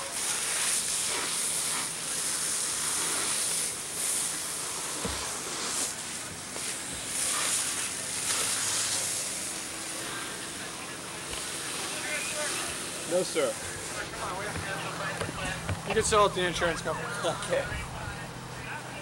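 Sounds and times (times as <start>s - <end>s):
fire hose water spraying: 0.0s - 17.6s.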